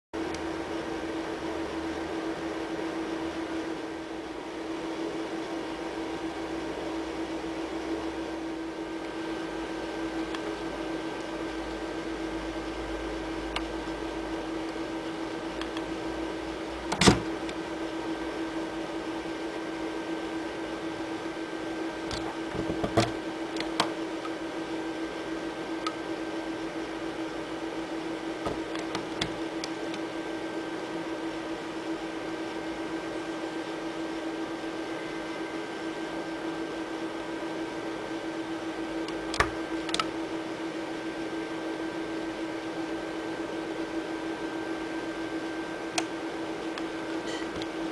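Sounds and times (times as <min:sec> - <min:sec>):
low electrical hum: 0:00.2 - 0:47.9.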